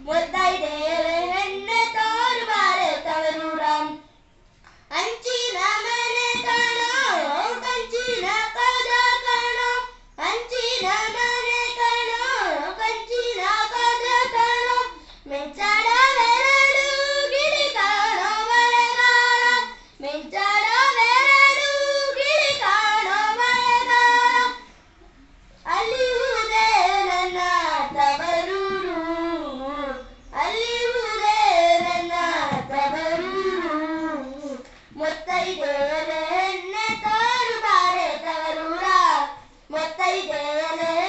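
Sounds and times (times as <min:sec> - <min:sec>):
boy singing into a microphone: 0:00.0 - 0:04.2, 0:04.9 - 0:24.7, 0:25.6 - 0:41.0.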